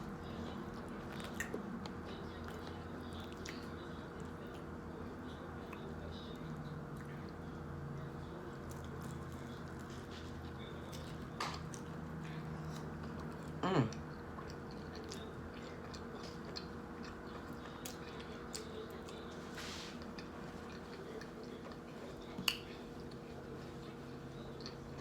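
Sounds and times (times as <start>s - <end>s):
person chewing food: 0.5s - 4.7s, 8.5s - 25.0s.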